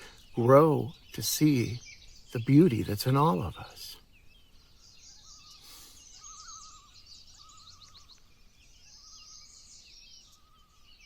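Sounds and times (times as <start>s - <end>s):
birds chirping and trilling: 0.0s - 11.0s
low wavering bird trill: 0.0s - 11.0s.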